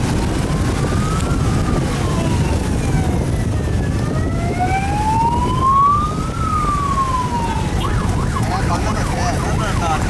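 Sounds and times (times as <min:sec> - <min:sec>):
emergency siren wailing: 0:00.0 - 0:10.0
traffic rumble: 0:00.0 - 0:10.0.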